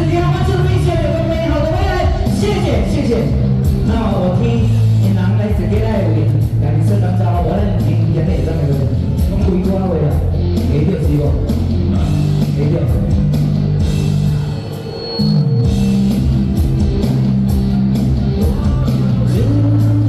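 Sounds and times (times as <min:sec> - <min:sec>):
amplified band music: 0:00.0 - 0:20.0.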